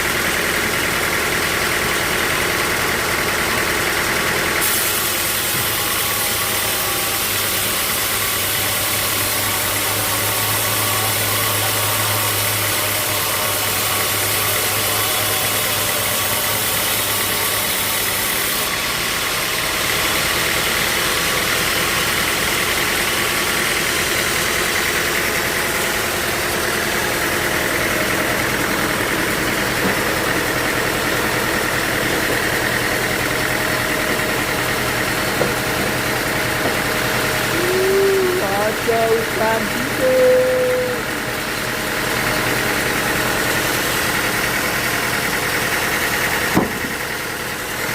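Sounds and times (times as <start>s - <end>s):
sawmill machinery humming: 0.0s - 47.9s.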